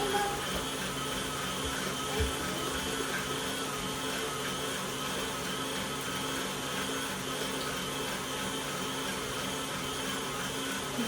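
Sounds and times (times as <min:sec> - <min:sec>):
stand mixer motor hum: 0:00.0 - 0:11.0.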